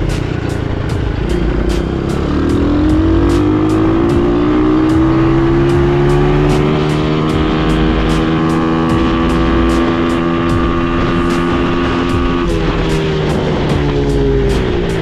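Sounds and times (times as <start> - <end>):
faint music with steady beat: 0.0 - 15.0
quad bike engine revving: 0.0 - 15.0.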